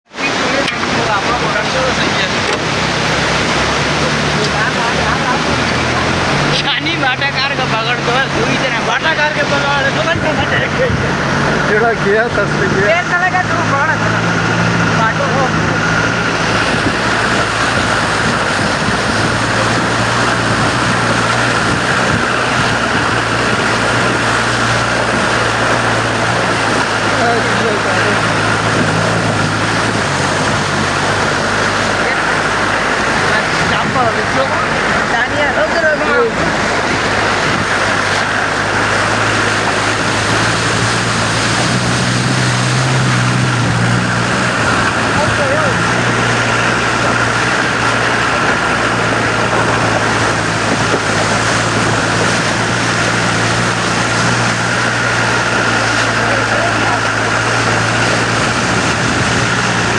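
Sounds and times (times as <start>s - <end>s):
car engine running: 0.0s - 59.9s
water rushing and splashing: 0.0s - 59.9s.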